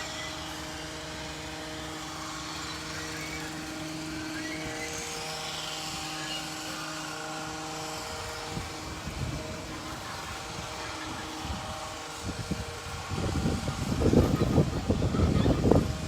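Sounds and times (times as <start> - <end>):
steady engine drone: 0.0 - 16.0.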